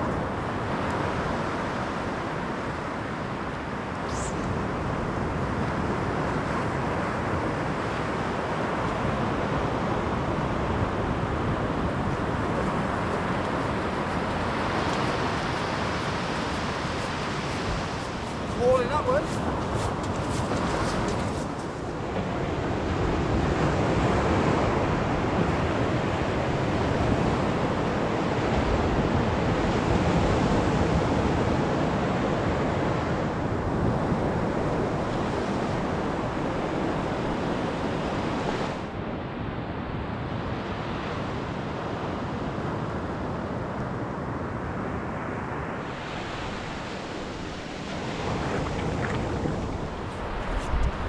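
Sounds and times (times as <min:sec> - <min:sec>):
waves breaking on beach: 0:00.0 - 0:51.0.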